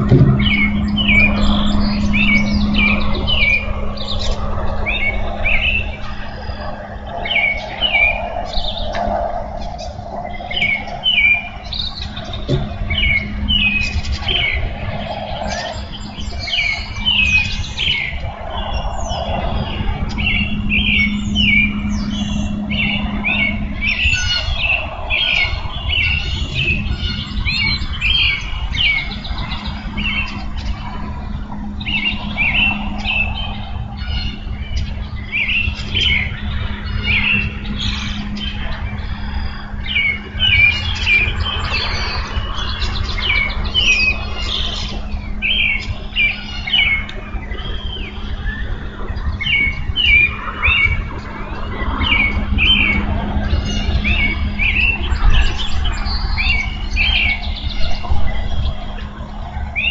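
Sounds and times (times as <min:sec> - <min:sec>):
songbirds chirping and trilling: 0:00.0 - 0:59.9
steady low hum: 0:00.0 - 0:59.9.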